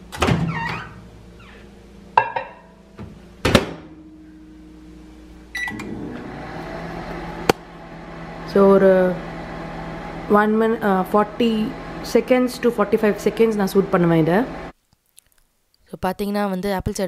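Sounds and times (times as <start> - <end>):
microwave humming: 0.0 - 14.7.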